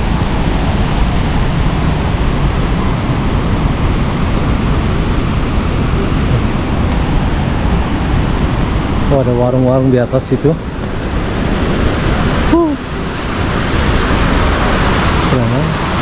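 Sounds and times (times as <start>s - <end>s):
waterfall and river rapids rushing: 0.0s - 16.0s.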